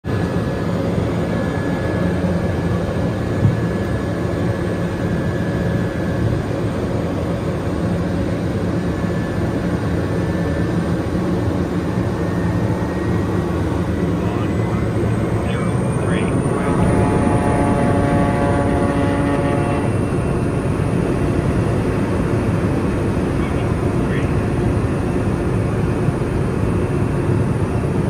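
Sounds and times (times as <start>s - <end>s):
turboprop engine drone: 0.0s - 28.0s.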